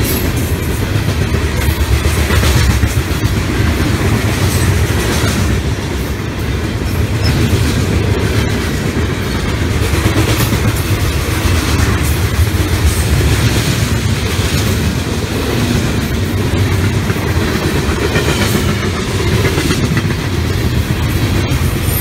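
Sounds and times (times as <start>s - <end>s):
freight train rumbling past: 0.0s - 22.0s
wheels clicking over rail joints: 0.0s - 22.0s.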